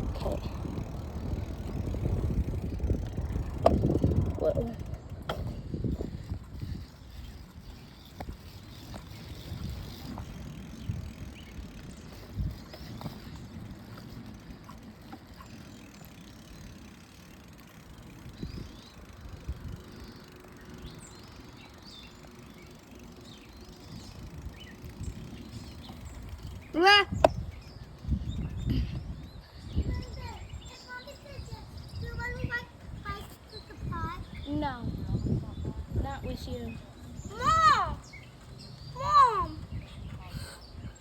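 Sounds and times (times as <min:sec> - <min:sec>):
wind rumble on microphone: 0:00.0 - 0:15.4, 0:18.0 - 0:41.0.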